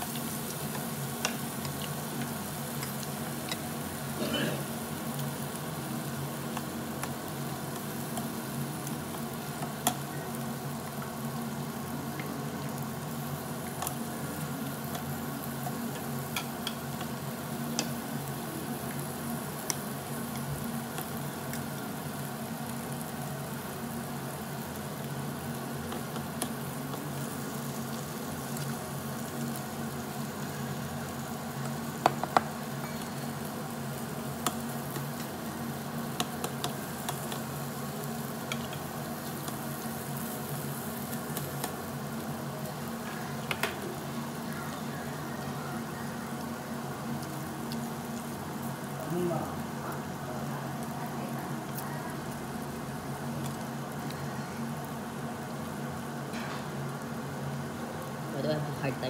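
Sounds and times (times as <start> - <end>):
meat sizzling on a grill: 0.0 - 59.0.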